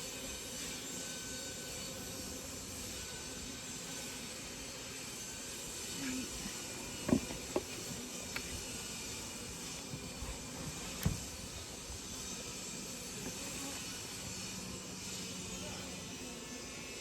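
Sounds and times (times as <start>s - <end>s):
honeybees humming: 0.0s - 17.0s.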